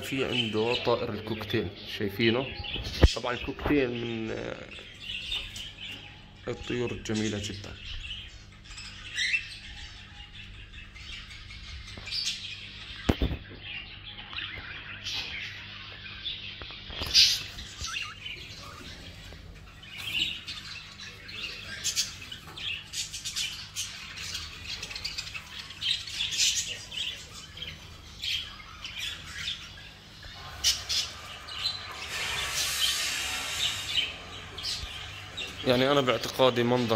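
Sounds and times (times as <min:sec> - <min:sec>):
birds chirping and squawking: 0:00.0 - 0:36.9.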